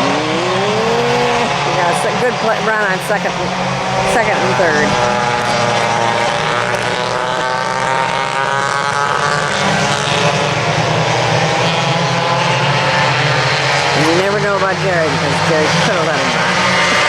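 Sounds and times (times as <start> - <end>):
go-kart engines racing: 0.0 - 17.0.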